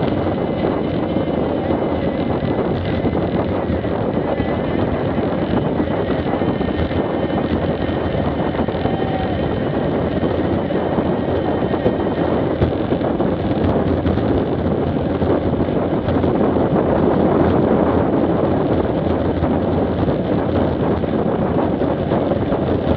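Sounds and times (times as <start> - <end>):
motorcycle running: 0.0 - 22.9
road noise: 0.0 - 22.9
wind rushing over microphone: 0.0 - 22.9.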